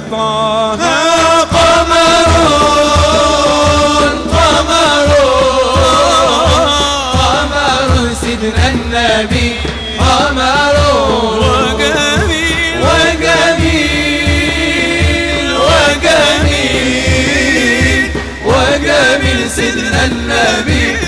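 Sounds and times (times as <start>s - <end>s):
male choir singing: 0.0s - 21.0s
frame drum beat: 0.7s - 21.0s.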